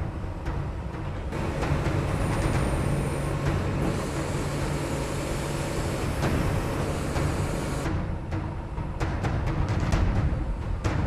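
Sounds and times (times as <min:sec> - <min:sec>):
engine humming: 0:00.0 - 0:09.4.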